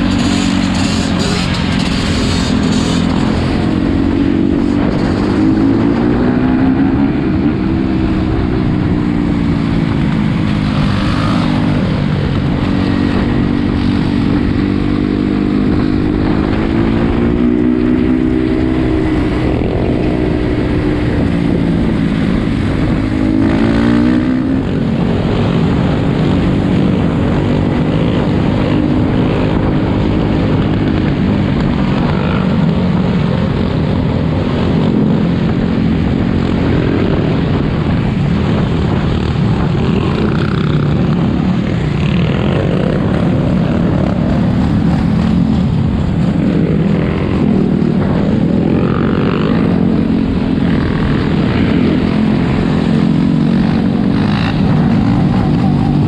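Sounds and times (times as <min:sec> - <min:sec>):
atv engines revving: 0:00.0 - 0:56.0.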